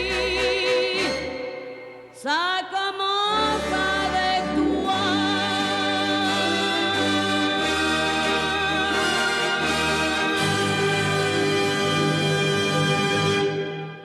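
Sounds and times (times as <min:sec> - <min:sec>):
orchestral song with vocals: 0:00.0 - 0:14.0.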